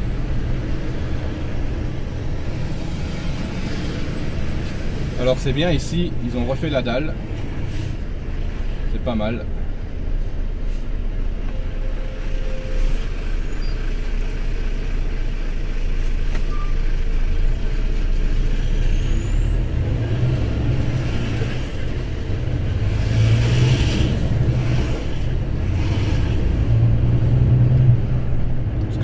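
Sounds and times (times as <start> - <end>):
lorry diesel engine: 0.0 - 29.0
road rumble: 0.0 - 29.0.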